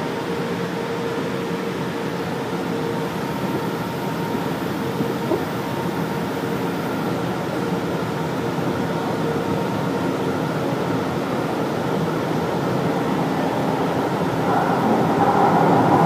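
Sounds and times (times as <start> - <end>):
faint constant whining tones: 0.0 - 16.0
metro train hum: 0.0 - 16.0.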